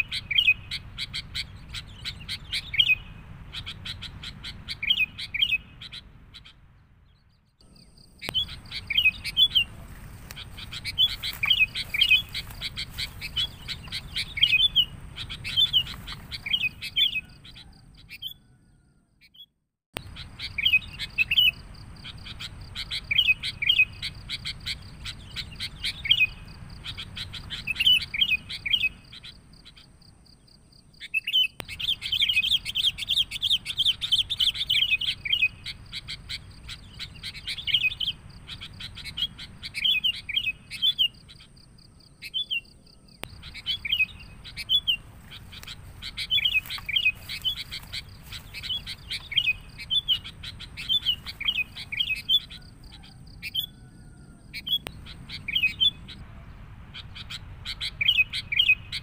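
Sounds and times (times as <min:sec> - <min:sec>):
bulbuls chattering chirps: 0:00.0 - 0:18.6, 0:20.0 - 0:59.0.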